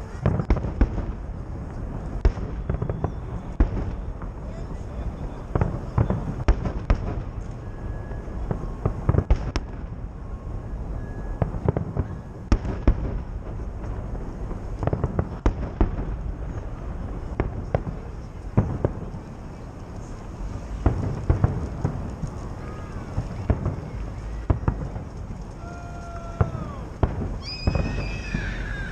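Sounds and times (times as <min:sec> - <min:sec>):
fireworks bangs: 0:00.0 - 0:28.9
low background noise: 0:00.0 - 0:28.9.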